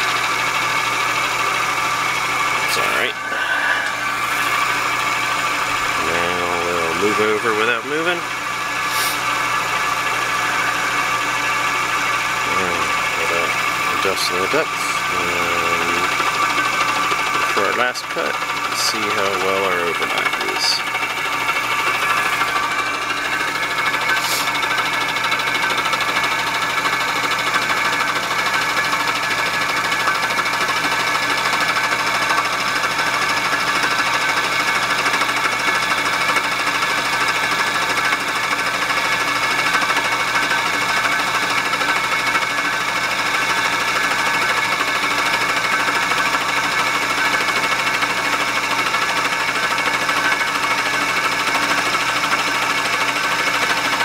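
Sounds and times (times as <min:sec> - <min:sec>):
milling machine chatter: 0:00.0 - 0:54.0.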